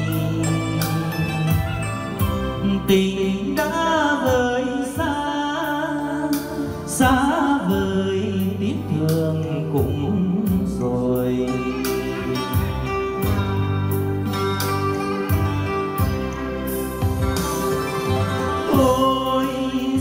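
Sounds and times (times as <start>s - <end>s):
slow ballad over loudspeakers: 0.0s - 20.0s.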